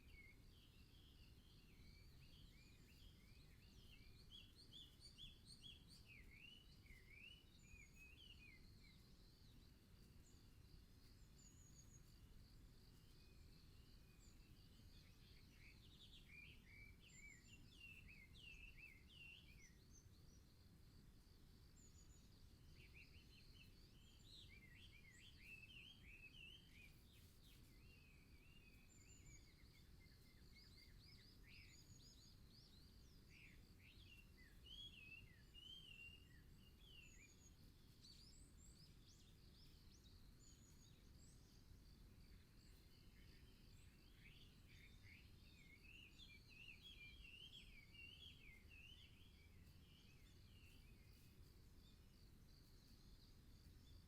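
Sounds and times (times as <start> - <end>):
faint songbird chirping: 0.0 - 54.0
low background hiss and rumble: 0.0 - 54.0.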